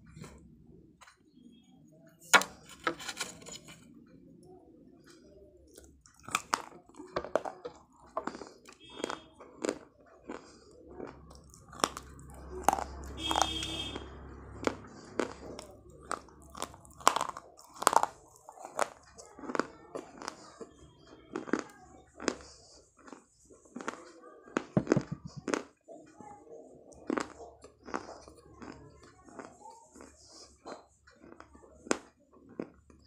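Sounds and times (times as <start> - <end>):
crunchy chewing: 5.0 - 25.8, 26.9 - 33.0.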